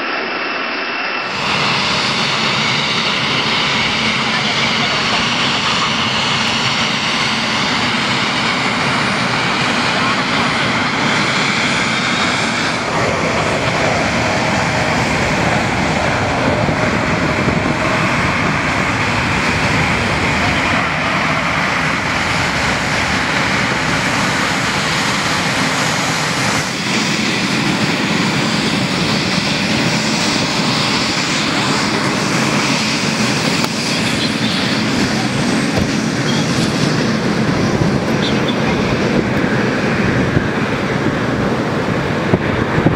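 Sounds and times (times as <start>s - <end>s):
faint high engine whine: 0.0s - 42.6s
jet engines roaring: 0.0s - 42.9s.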